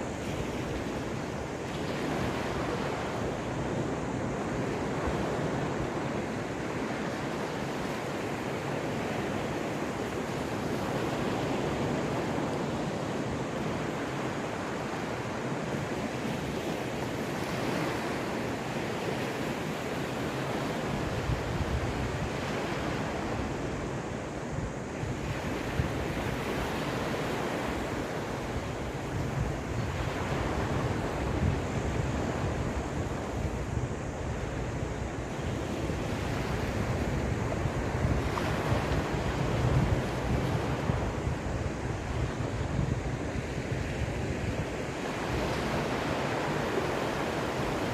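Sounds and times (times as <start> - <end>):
waves washing on shore: 0.0 - 47.9
wind rumbling on microphone: 0.0 - 47.9.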